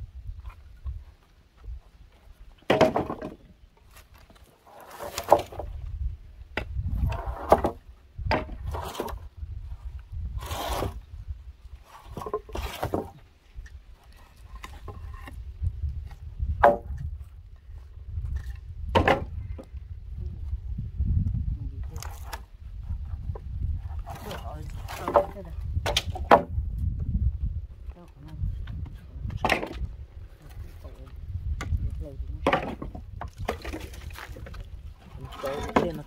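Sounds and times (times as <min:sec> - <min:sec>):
wooden planks knocking and scraping: 0:00.4 - 0:06.0, 0:06.6 - 0:09.3, 0:11.8 - 0:19.8, 0:21.8 - 0:27.2, 0:27.8 - 0:36.0.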